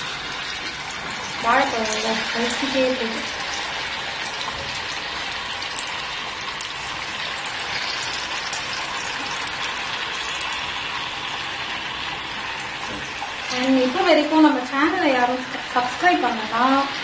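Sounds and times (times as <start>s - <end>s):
food deep-frying in hot oil: 0.0s - 17.0s
sharp oil crackles: 0.0s - 17.0s.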